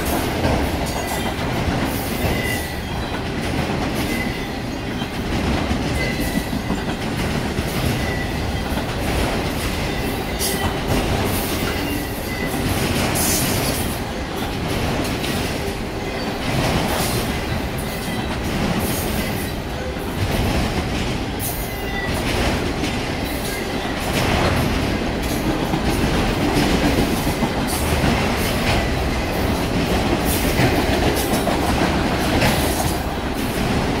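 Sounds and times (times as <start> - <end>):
rail cars clicking and clanking: 0.0 - 34.0
train wheels rumbling on rails: 0.0 - 34.0.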